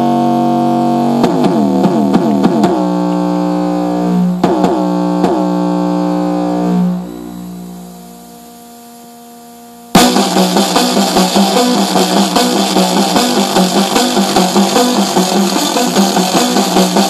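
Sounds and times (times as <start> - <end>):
rock music through car stereo: 0.0 - 9.0, 9.8 - 17.0
synth chord: 0.0 - 17.0.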